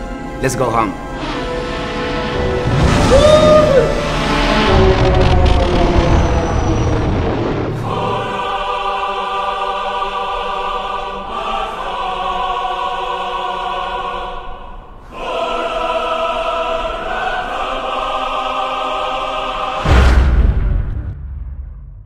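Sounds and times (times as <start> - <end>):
choir singing held chords: 0.0 - 20.8.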